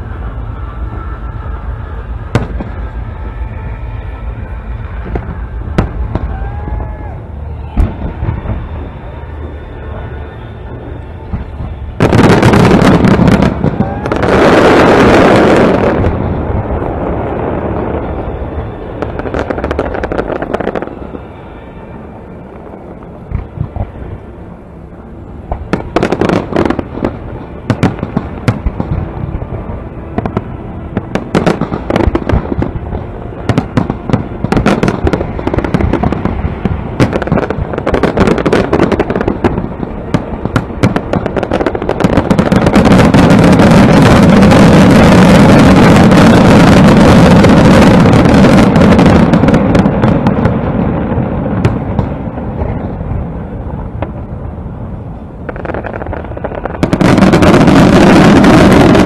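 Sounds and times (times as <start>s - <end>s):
fireworks bangs: 0.0s - 24.3s, 25.4s - 54.4s, 55.1s - 59.0s.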